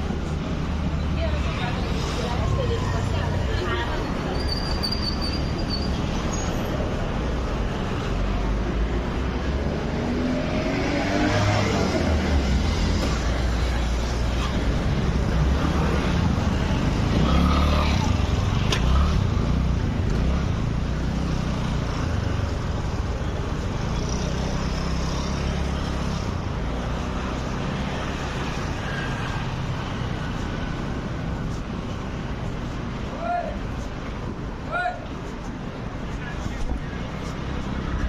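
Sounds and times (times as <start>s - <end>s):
low vehicle noise: 0.0s - 38.0s.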